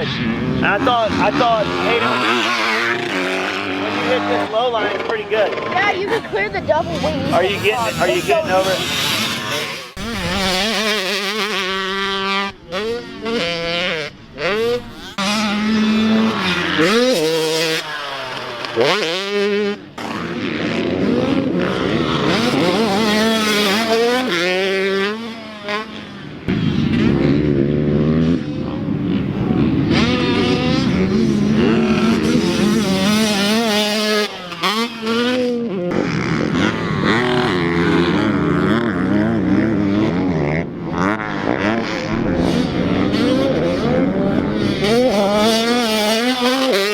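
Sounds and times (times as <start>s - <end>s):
dirt bike engines revving: 0.0s - 46.9s.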